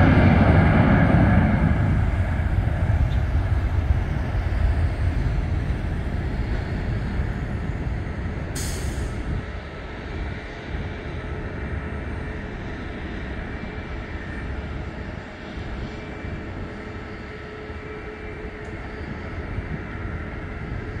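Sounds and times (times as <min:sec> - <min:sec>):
faint jet engine whine: 0:00.0 - 0:21.0
jet engines rumbling: 0:00.0 - 0:21.0.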